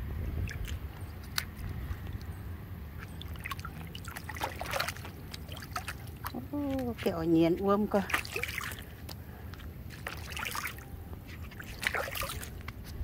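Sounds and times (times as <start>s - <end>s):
foot splashing through puddle: 0.4s - 2.0s, 3.0s - 12.8s.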